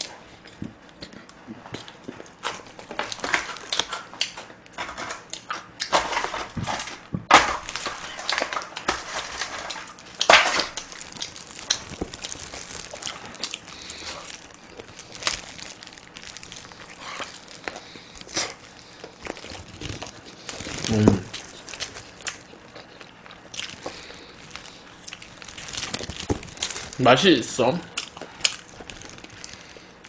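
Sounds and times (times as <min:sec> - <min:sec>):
chewing and mouth sounds: 0:00.0 - 0:05.9, 0:09.6 - 0:27.0, 0:27.9 - 0:30.0
foil tray crinkling: 0:02.4 - 0:30.0.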